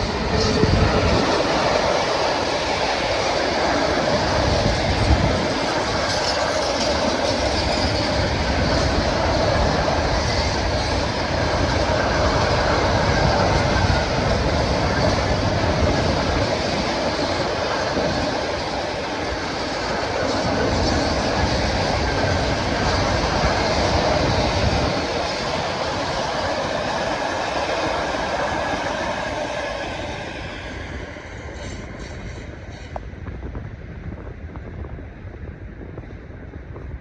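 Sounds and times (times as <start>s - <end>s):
freight train rumbling: 0.0s - 37.0s.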